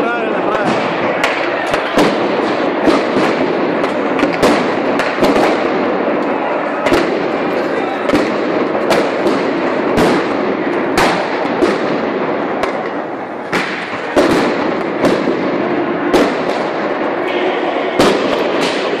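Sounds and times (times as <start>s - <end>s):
large crowd din: 0.0s - 19.0s
sharp explosive bangs: 0.0s - 19.0s.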